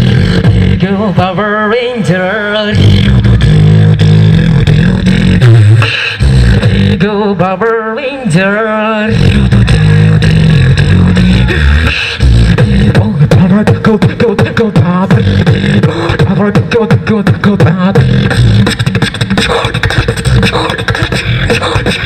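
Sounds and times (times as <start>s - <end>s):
beatboxing into a microphone: 0.0s - 22.0s
wavering vocal lines: 0.0s - 22.0s.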